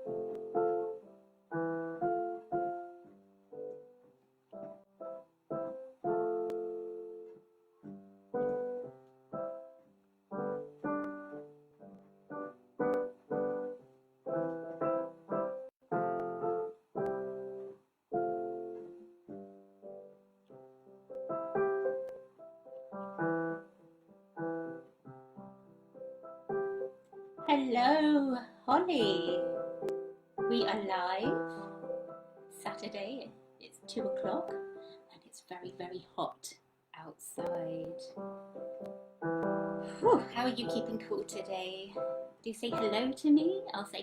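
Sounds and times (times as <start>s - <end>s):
piano chords: 0.0s - 36.4s, 37.3s - 44.0s.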